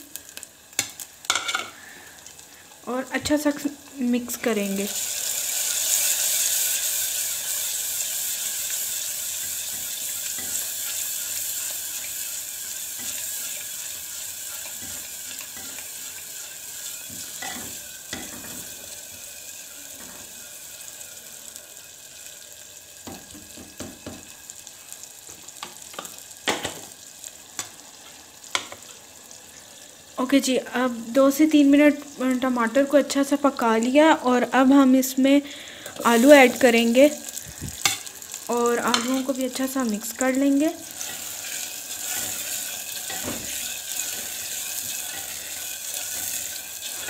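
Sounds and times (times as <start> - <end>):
masala sizzling in oil: 0.0 - 47.0.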